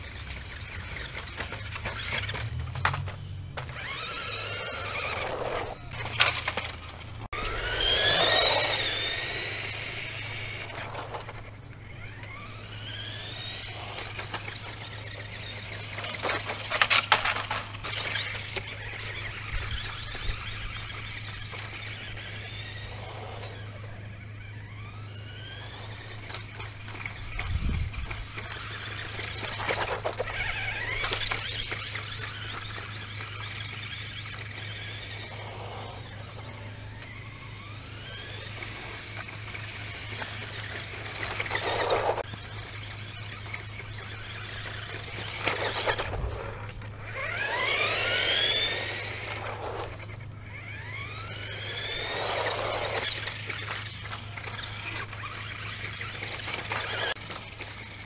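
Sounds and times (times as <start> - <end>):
toy car electric motor whining: 0.0 - 58.0.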